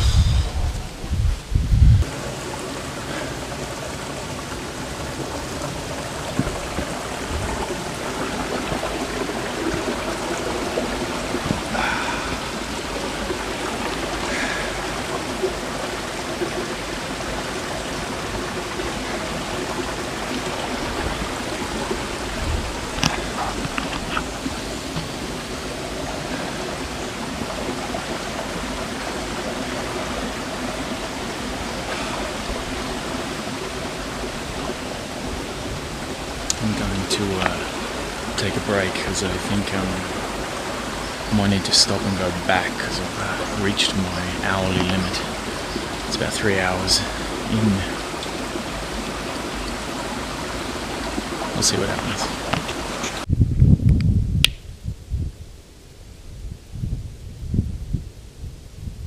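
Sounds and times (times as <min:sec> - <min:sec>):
creek rushing: 0:00.0 - 0:53.3.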